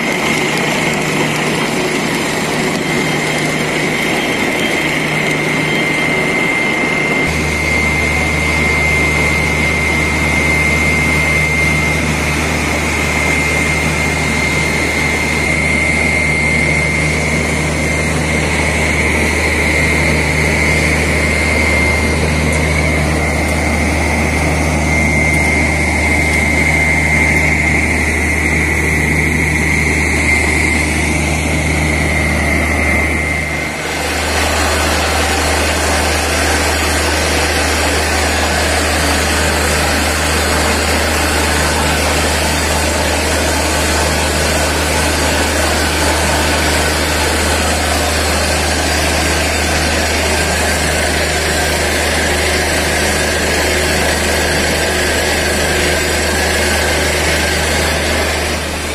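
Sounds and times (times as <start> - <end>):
drilling rig engine drone: 0.0 - 58.9
high whine: 0.0 - 58.9.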